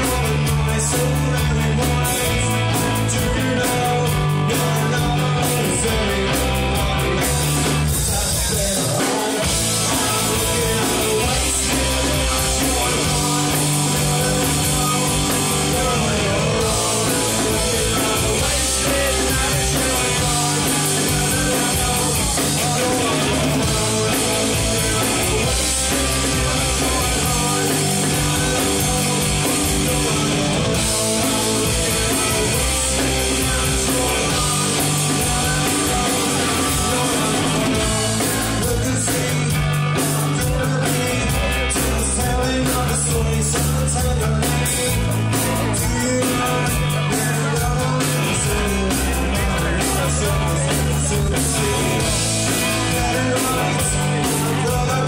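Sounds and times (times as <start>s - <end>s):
loud live rock band: 0.0s - 55.0s.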